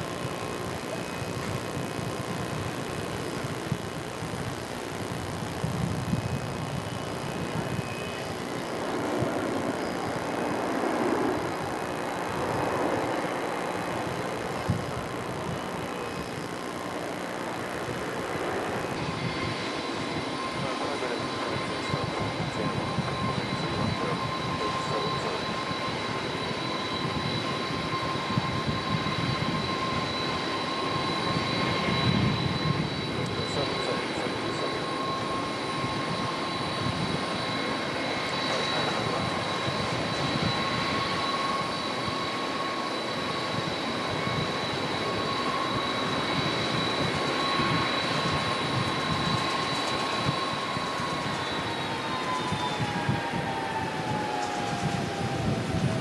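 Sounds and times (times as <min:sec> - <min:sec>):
jet engines: 0:00.0 - 0:56.0.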